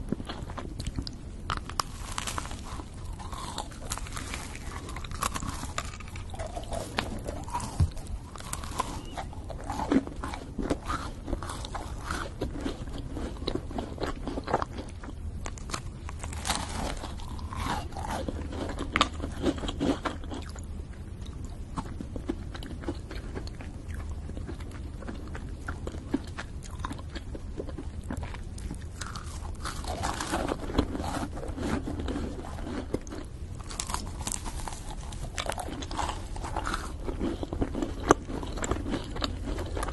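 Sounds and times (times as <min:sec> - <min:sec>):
crunchy bites of biscuit: 0:00.0 - 0:20.7, 0:21.3 - 0:39.9
sticky chewing and mouth sounds: 0:00.0 - 0:39.9.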